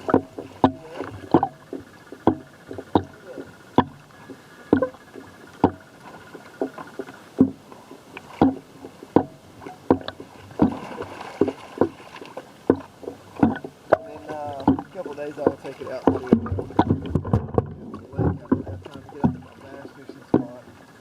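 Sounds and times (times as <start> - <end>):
water slapping microphone: 0.0 - 21.0
water splashing: 0.0 - 21.0.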